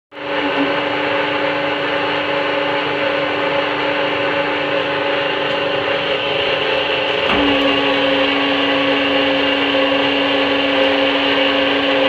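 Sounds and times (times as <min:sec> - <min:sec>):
machine motor humming: 0:00.2 - 0:12.0.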